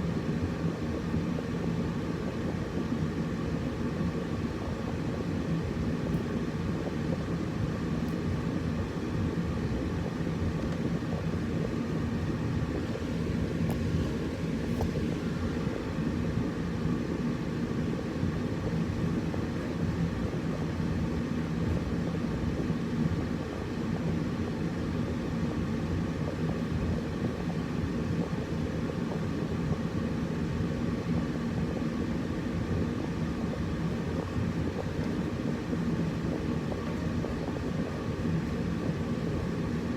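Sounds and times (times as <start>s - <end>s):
air conditioner drone: 0.0s - 39.9s.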